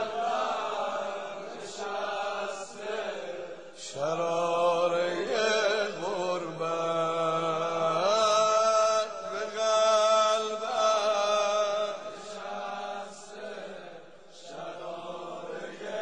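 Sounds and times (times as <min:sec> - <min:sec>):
person chanting a lament: 0:00.0 - 0:13.7.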